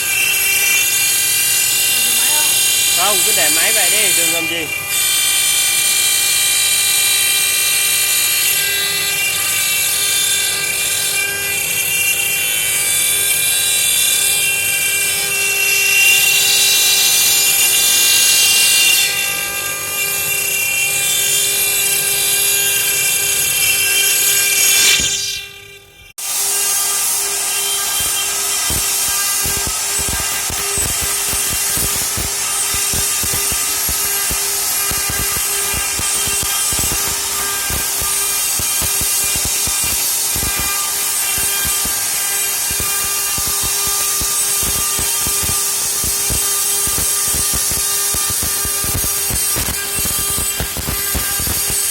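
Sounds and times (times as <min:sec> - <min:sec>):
stone-carving machine whining: 0:00.0 - 0:51.9.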